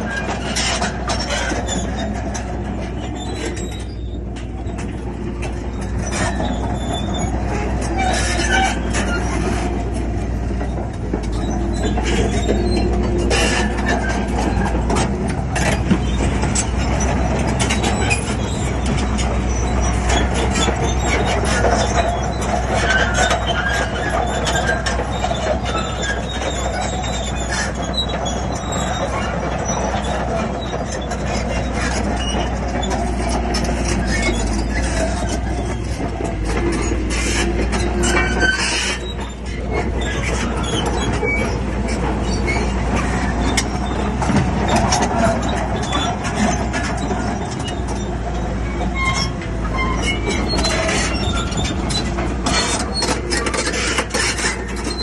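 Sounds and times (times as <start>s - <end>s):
bulldozer diesel rumble: 0.0s - 55.0s
steel tracks clanking and squeaking: 0.0s - 55.0s.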